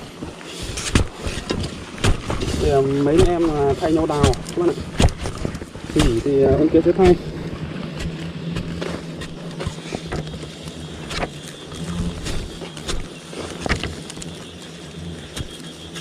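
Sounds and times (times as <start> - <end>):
steady low hum: 0.0 - 16.0
tool digging in soil: 0.5 - 7.3, 7.9 - 14.5.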